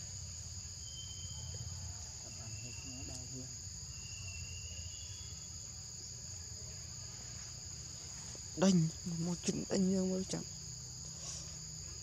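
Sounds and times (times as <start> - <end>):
high insect trills: 0.0 - 12.0
insect drone: 0.0 - 12.0.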